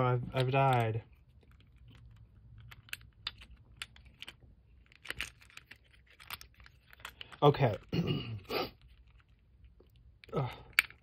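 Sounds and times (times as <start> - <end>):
plastic armor pieces clicking: 0.3 - 7.9, 8.9 - 11.0.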